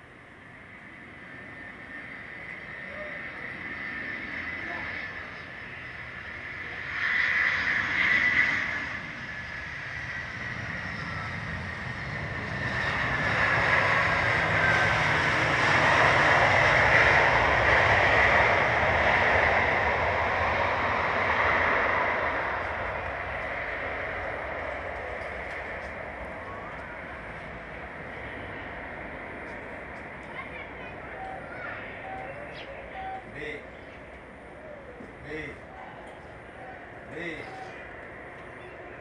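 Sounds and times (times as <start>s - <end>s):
aircraft engines passing: 0.0s - 39.0s.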